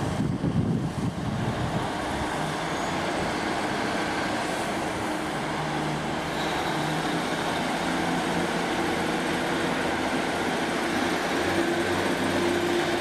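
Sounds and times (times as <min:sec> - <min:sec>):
train engines humming: 0:00.0 - 0:13.0.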